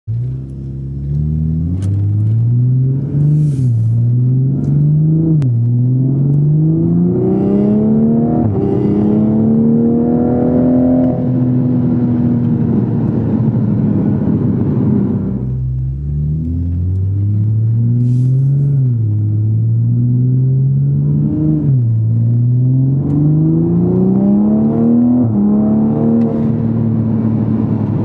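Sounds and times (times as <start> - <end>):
car engine accelerating: 0.1 - 28.0.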